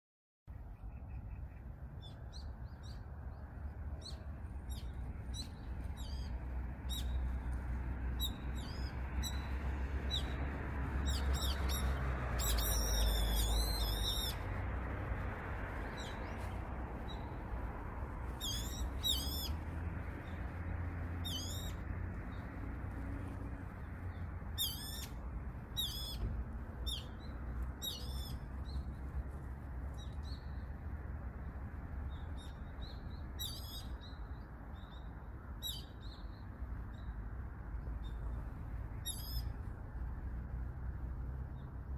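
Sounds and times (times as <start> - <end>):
birds giving thin wavering calls: 0.5 - 30.8, 32.0 - 37.2, 38.0 - 40.1.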